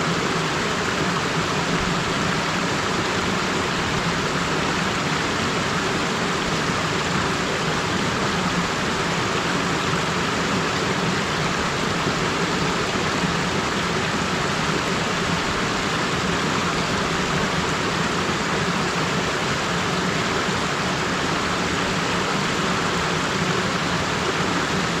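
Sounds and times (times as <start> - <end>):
mountain stream flowing: 0.0 - 25.0.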